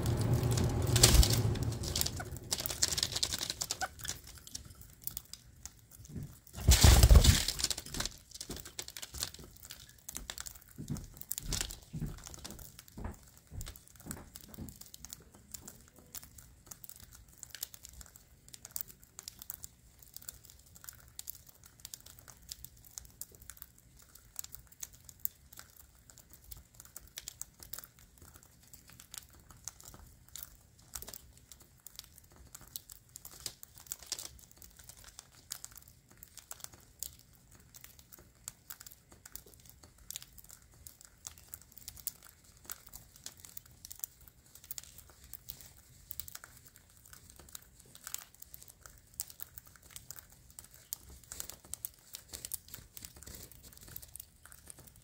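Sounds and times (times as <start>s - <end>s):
dense irregular crackling clicks: 0.0s - 55.0s.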